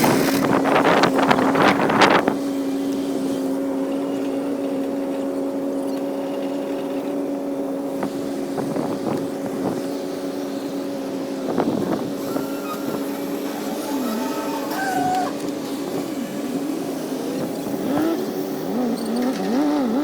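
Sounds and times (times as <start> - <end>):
heavy machinery diesel engine: 0.0 - 20.0.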